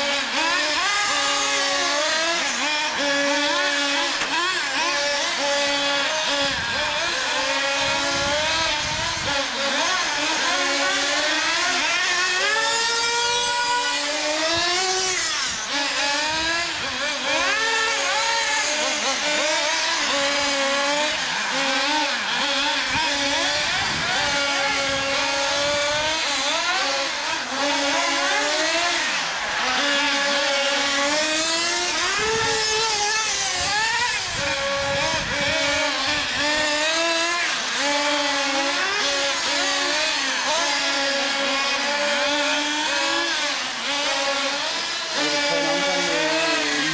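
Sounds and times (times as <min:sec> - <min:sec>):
rc truck engines revving: 0:00.0 - 0:46.9.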